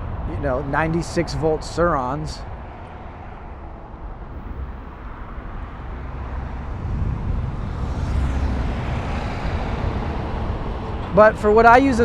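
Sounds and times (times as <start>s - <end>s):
road rumble: 0.0s - 12.0s
wind rush: 0.0s - 12.0s.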